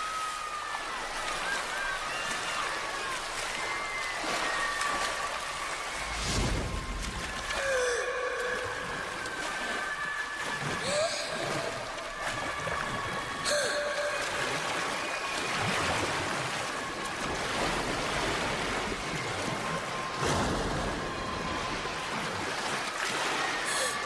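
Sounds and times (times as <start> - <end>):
water splashing from swimming: 0.0 - 24.0.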